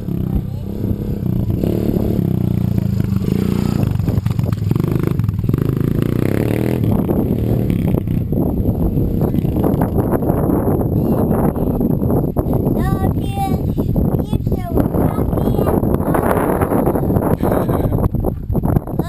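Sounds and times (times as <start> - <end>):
engine running: 0.0 - 18.1.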